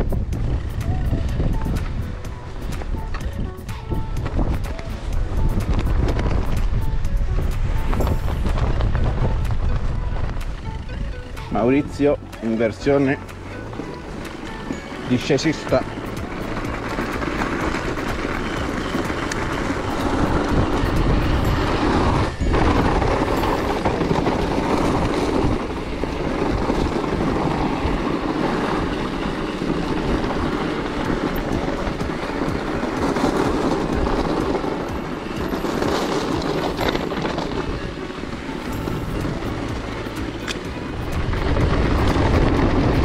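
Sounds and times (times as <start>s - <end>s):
tyres rattling on rough track: 0.0s - 43.0s
wind rushing over microphone: 0.0s - 43.0s.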